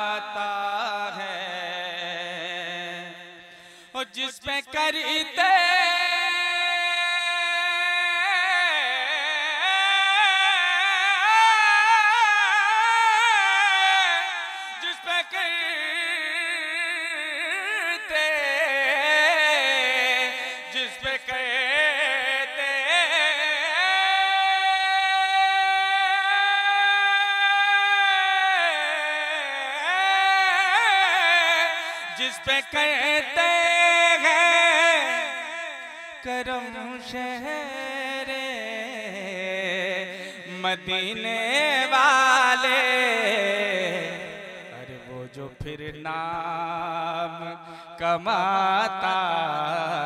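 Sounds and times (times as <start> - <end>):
man singing unaccompanied: 0.0 - 50.0.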